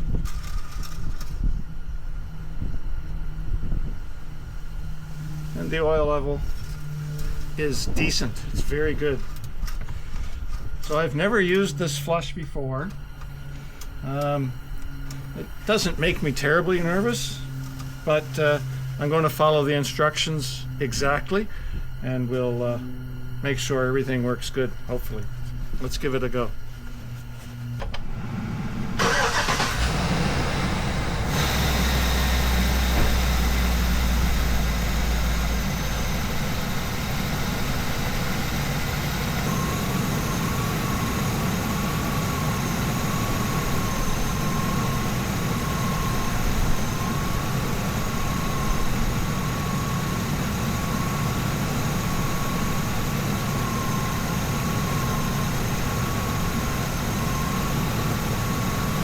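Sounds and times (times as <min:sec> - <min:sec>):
thin steady whine: 0:00.0 - 0:59.0
vehicle engine starting and idling: 0:00.0 - 0:59.0.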